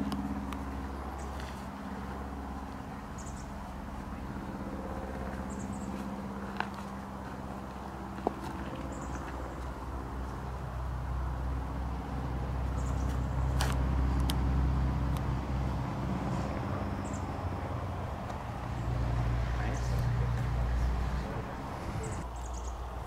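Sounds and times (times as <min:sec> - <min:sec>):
motor engine humming: 0:00.0 - 0:23.0.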